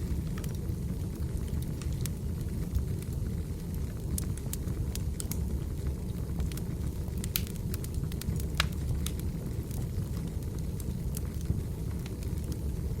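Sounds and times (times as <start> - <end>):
fire crackling and popping: 0.0 - 13.0
flames rumbling: 0.0 - 13.0.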